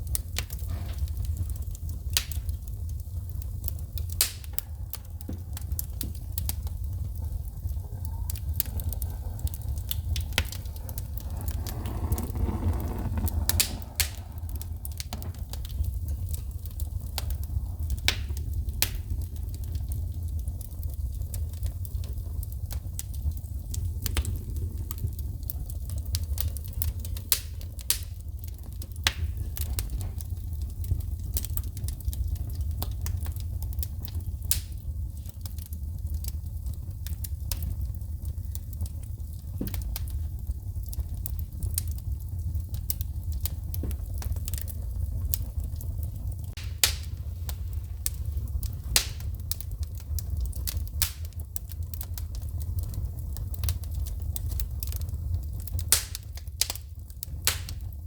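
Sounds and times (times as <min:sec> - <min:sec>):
low fire rumble: 0:00.0 - 0:58.0
wood fire crackling and popping: 0:00.0 - 0:58.0.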